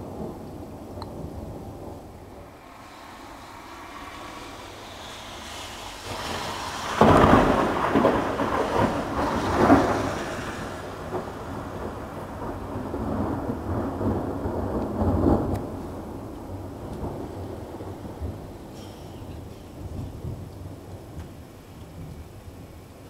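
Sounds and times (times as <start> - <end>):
thunder rumbling: 0.0 - 22.9.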